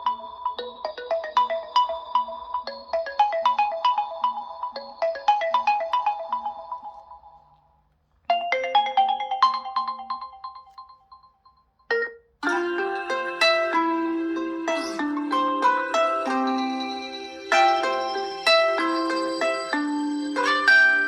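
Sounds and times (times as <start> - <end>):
phone ringtone melody: 0.0 - 7.4, 8.3 - 21.0.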